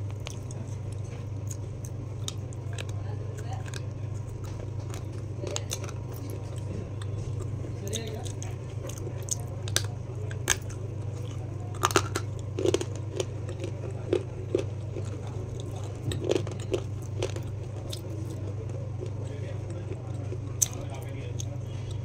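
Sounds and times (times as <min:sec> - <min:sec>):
crunchy food being chewed: 0:00.0 - 0:22.0
steady low hum: 0:00.0 - 0:22.0.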